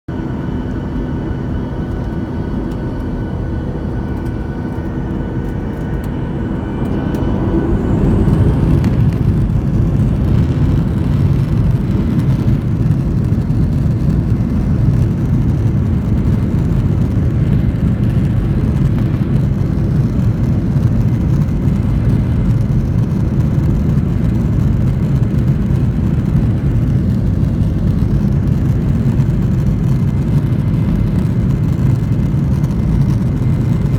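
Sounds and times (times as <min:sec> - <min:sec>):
jet engines spooling up: 0:00.2 - 0:33.9.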